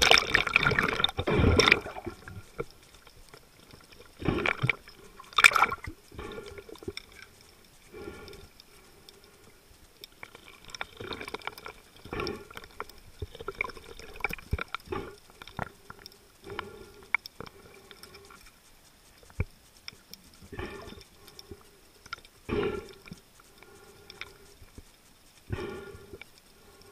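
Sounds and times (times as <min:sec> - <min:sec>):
water sloshing and gurgling: 0:00.0 - 0:26.9.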